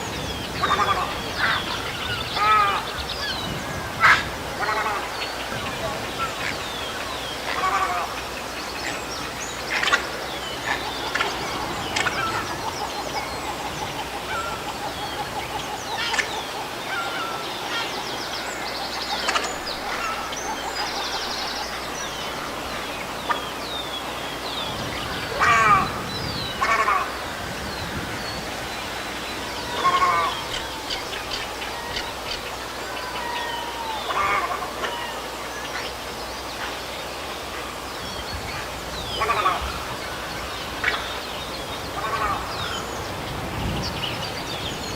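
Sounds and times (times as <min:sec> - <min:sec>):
faint calls of other birds: 0:00.0 - 0:44.9
heron calls: 0:00.5 - 0:23.9, 0:24.6 - 0:27.4, 0:29.5 - 0:36.0, 0:38.4 - 0:43.0.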